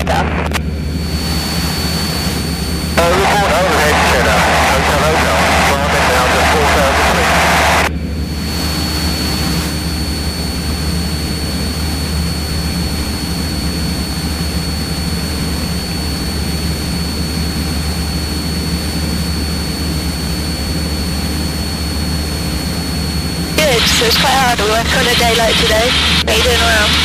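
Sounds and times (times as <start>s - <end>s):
airplane engine droning in cabin: 0.0s - 27.0s.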